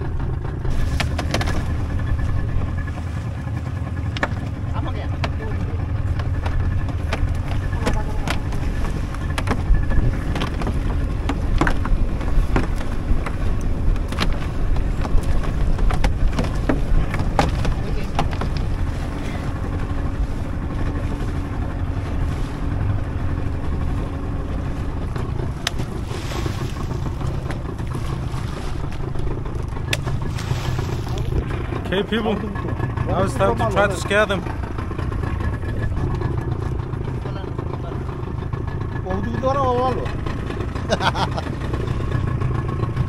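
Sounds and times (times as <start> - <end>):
boat motor rumbling: 0.0 - 43.0.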